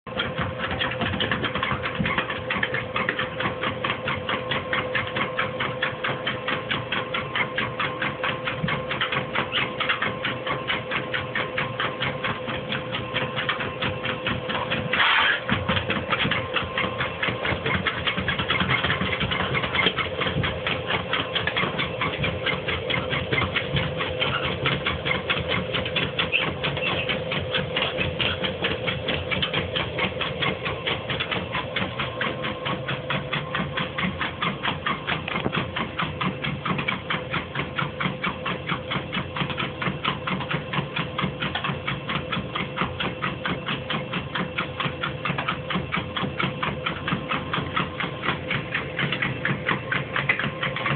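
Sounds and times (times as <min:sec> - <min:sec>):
treadmill motor whine: 0:00.0 - 0:50.9
dog paws clattering on treadmill: 0:00.1 - 0:50.9.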